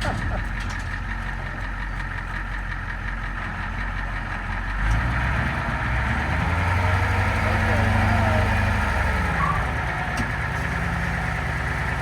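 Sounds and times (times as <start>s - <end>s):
diesel truck engine: 0.0s - 12.0s.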